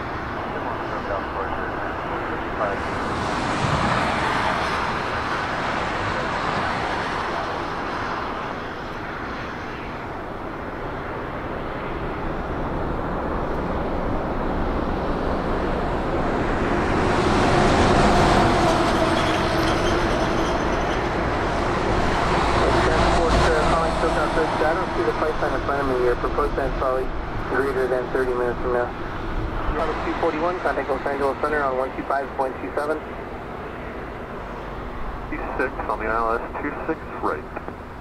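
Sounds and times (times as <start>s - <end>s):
faint engine whine: 0.0s - 38.0s
jet engine rumble: 0.0s - 38.0s.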